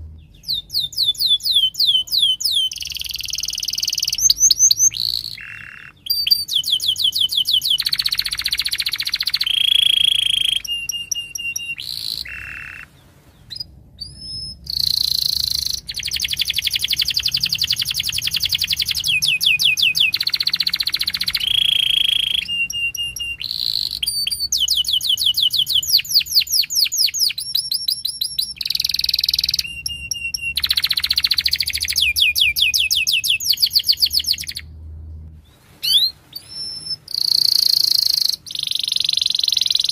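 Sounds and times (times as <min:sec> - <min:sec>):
canary singing: 0:00.0 - 0:34.7, 0:35.4 - 0:39.9.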